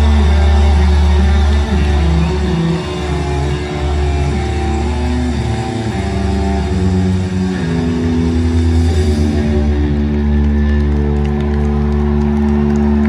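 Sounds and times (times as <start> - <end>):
live rock band through pa: 0.0 - 13.0.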